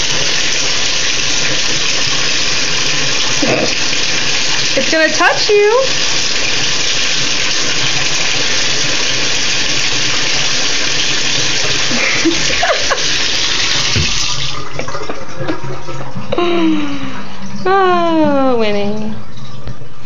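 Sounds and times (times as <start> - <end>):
water pouring into bathtub: 0.0 - 20.0.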